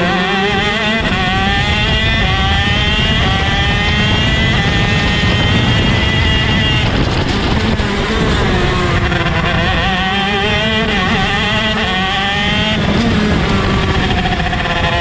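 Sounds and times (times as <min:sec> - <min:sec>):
two-stroke kart engine revving: 0:00.0 - 0:15.0.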